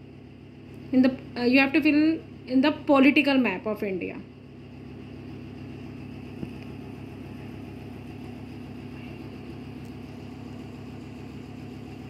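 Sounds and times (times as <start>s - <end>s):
low machine hum with flutter: 0.0s - 12.0s.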